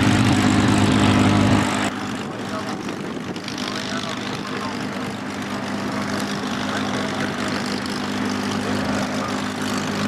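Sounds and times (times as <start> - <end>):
propeller aircraft engine droning: 0.0 - 10.0.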